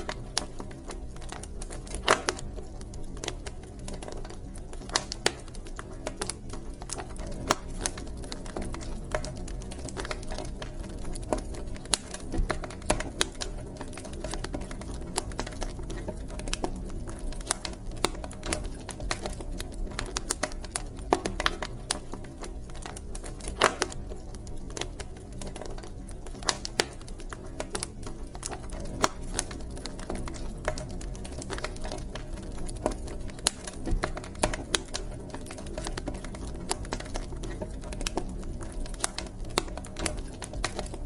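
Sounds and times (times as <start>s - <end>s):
low rumble of burning logs: 0.0s - 41.0s
wood fire crackling and popping: 0.0s - 41.0s.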